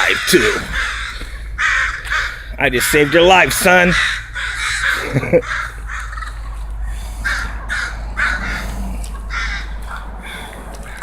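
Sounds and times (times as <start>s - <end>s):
birds calling in short calls: 0.0s - 11.0s
low background hum: 0.0s - 11.0s.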